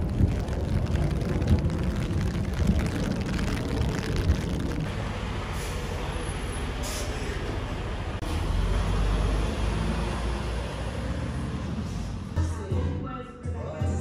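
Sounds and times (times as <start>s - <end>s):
city street traffic: 0.0s - 12.9s.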